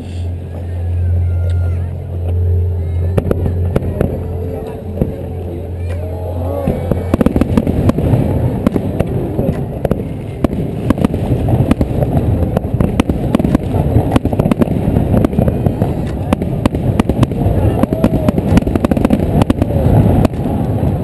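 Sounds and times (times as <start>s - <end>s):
low rumble: 0.0s - 21.0s
fireworks bangs and crackles: 3.1s - 21.0s.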